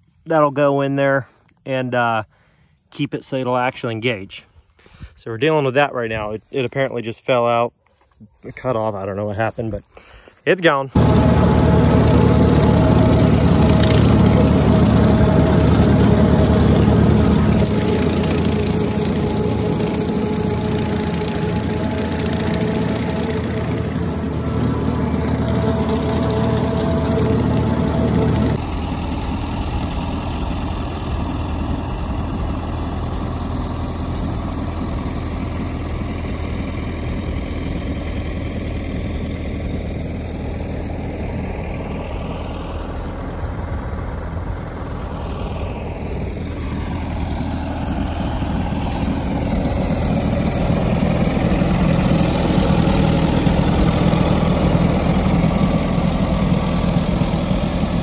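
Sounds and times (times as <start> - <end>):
tractor engine idling: 10.9 - 58.0.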